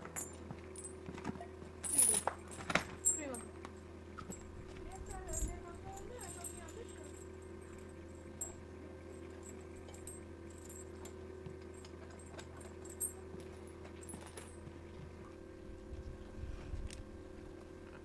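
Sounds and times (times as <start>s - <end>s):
harness chain clinking: 0.0s - 14.8s
low electrical hum: 0.0s - 18.0s.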